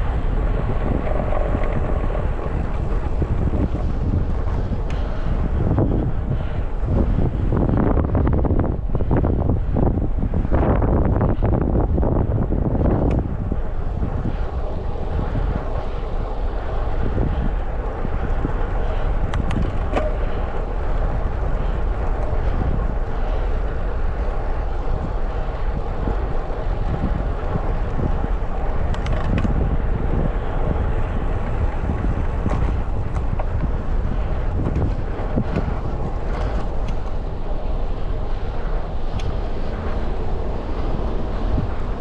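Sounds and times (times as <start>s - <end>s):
rolling and traffic rumble: 0.0s - 42.0s
wind buffeting microphone: 0.0s - 42.0s.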